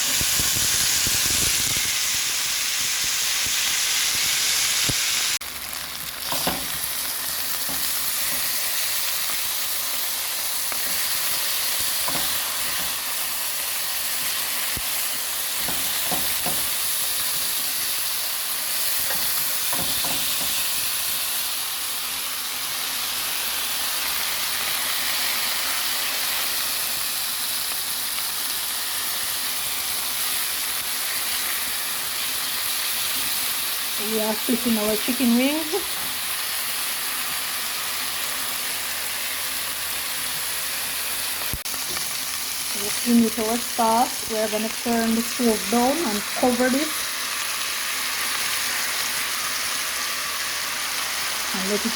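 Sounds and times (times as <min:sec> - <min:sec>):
chicken frying in oil: 0:00.0 - 0:51.9.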